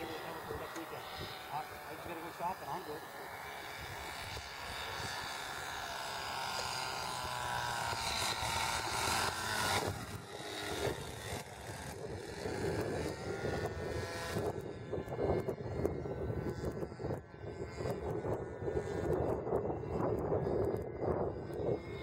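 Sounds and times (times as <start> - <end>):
model airplane engine drone: 0.0 - 22.0.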